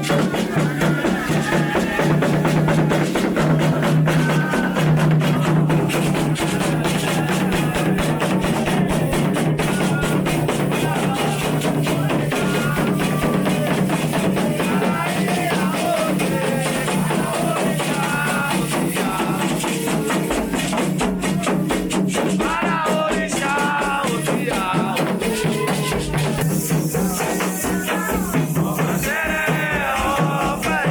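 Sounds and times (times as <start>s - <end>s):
chanted singing: 0.0s - 30.9s
hand drumming: 0.0s - 30.9s.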